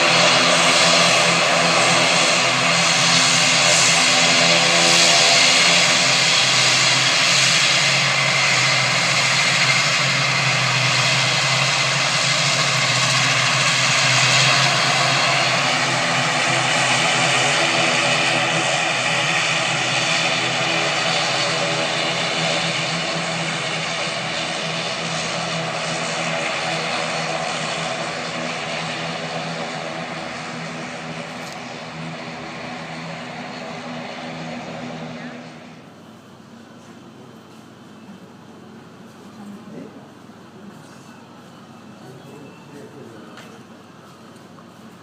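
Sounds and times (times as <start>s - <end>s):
propeller airplane engines droning: 0.0s - 45.0s.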